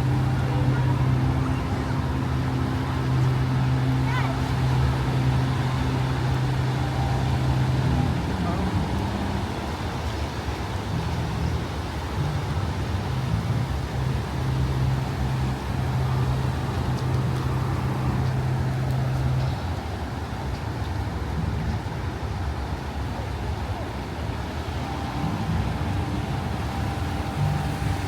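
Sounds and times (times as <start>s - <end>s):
surf and wind hiss: 0.0s - 28.0s
vehicle engine humming: 0.0s - 28.0s.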